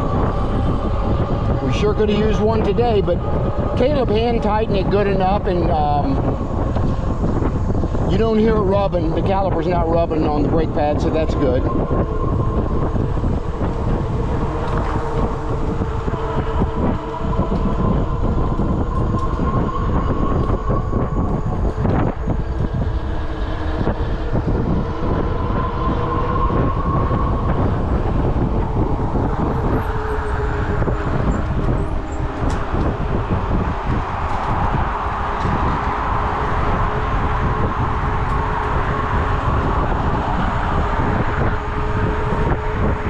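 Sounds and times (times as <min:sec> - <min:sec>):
electric hub motor whining: 0:00.0 - 0:43.0
wind rumble on microphone: 0:00.0 - 0:43.0.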